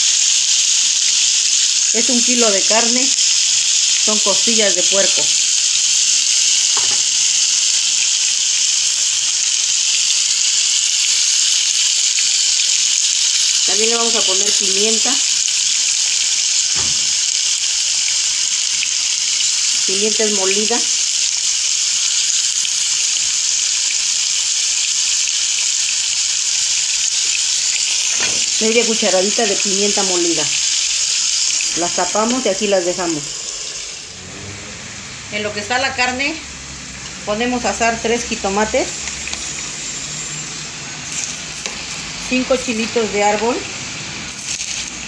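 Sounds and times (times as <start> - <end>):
ribs sizzling in hot oil: 0.0 - 45.0.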